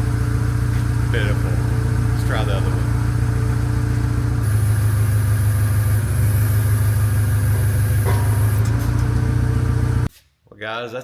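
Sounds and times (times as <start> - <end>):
engine idling: 0.0 - 10.1.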